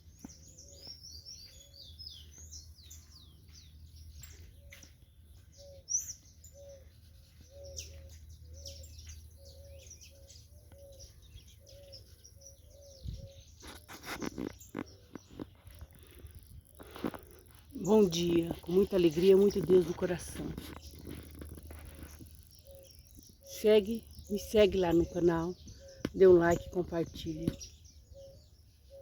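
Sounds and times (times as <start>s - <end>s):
birds chirping and singing: 0.0s - 29.0s.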